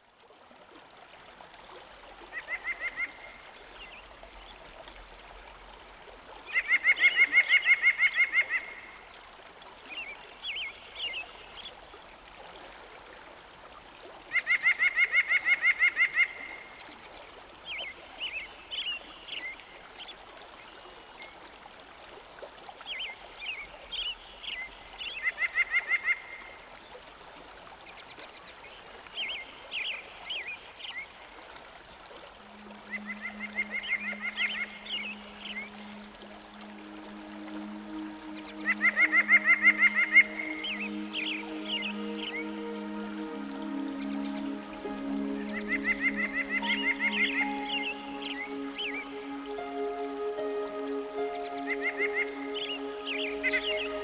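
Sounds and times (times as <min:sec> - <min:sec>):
running water hiss: 0:00.0 - 0:54.0.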